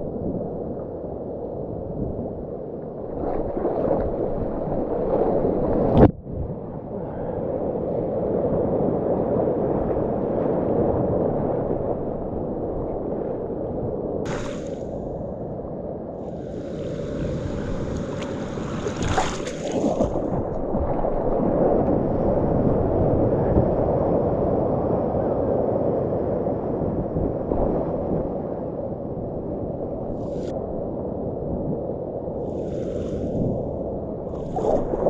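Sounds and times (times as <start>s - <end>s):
muffled whitewater rushing: 3.0s - 31.8s, 32.5s - 35.0s.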